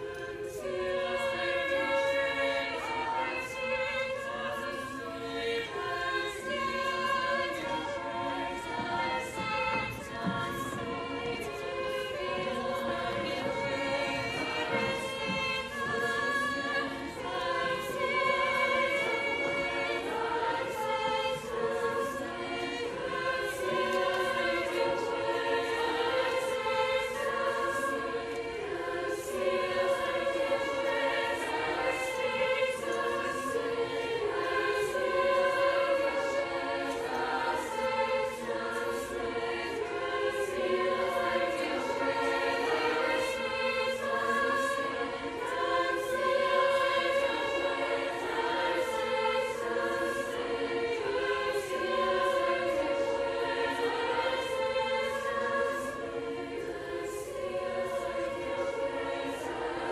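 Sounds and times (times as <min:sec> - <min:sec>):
treble choir singing: 0:00.0 - 0:59.9.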